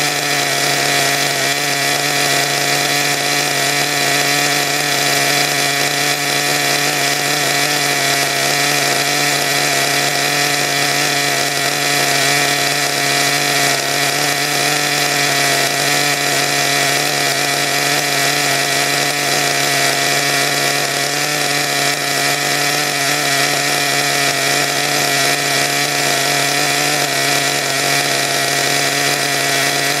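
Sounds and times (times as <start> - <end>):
nitro engine running steadily: 0.0 - 30.0.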